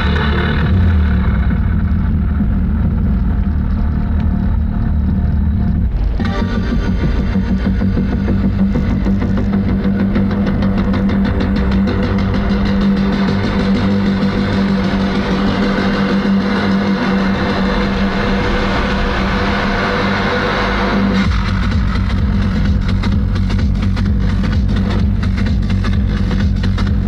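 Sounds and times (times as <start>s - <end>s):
car engine running: 0.0s - 27.0s.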